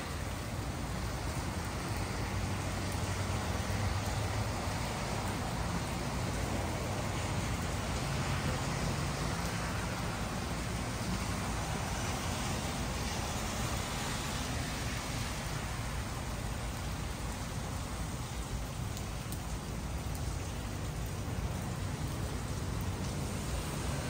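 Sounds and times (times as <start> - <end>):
cars passing on wet road: 0.0 - 24.0
rain on wet pavement: 0.0 - 24.0.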